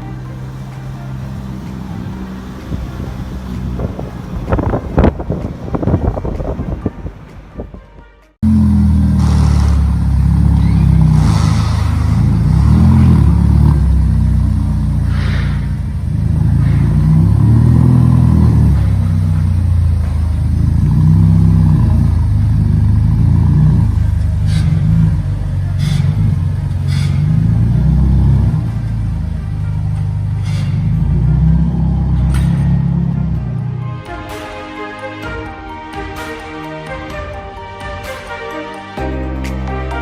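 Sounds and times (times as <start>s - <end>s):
car engine revving: 0.0s - 7.7s, 8.3s - 40.0s.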